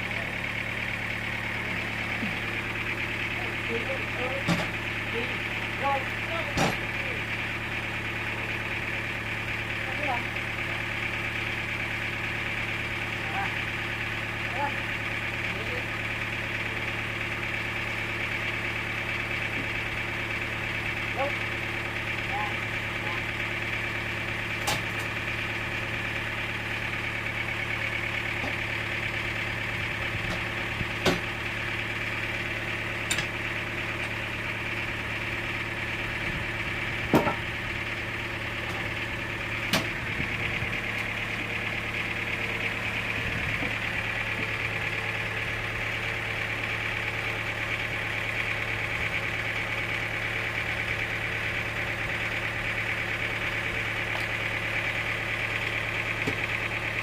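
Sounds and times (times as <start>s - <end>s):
sawmill machinery humming and whining: 0.0s - 57.0s.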